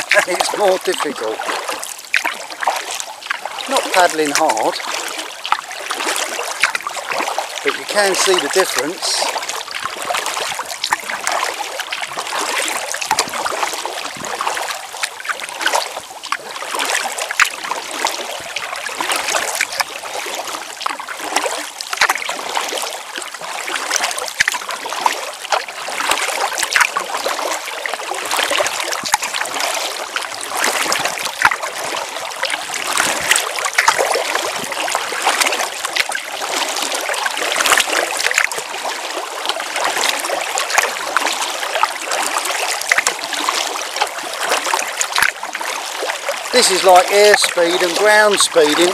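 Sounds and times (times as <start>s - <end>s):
paddle splashes: 0.0s - 48.9s
water rushing along kayak hull: 0.0s - 48.9s.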